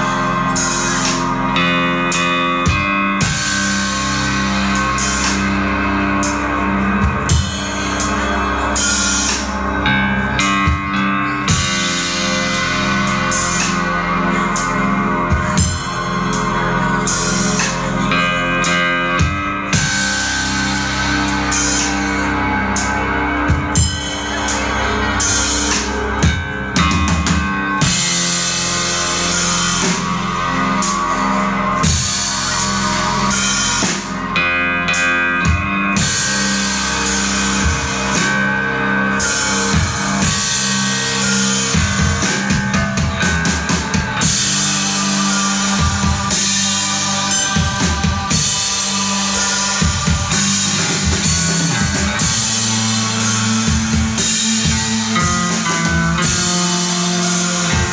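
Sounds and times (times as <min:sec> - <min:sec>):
drum kit and cymbals: 0:00.0 - 0:57.9
electric guitar: 0:00.0 - 0:57.9.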